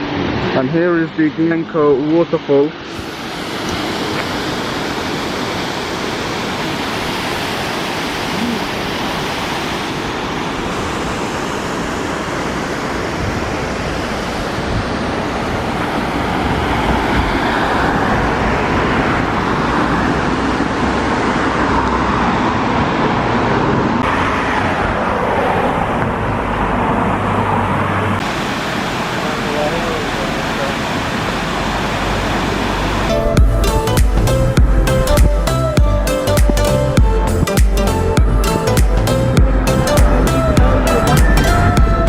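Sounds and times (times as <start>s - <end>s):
waterfall rushing: 0.0s - 22.7s, 28.1s - 42.0s.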